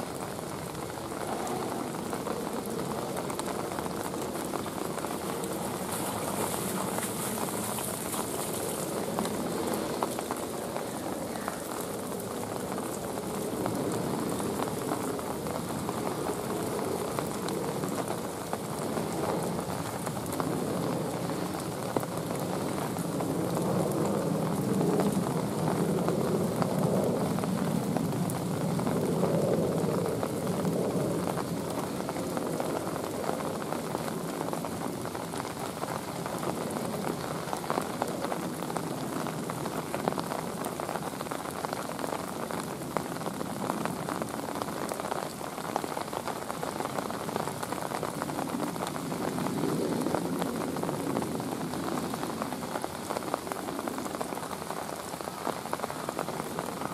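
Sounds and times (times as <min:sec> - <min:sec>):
rain on water and rocks: 0:00.0 - 0:56.9.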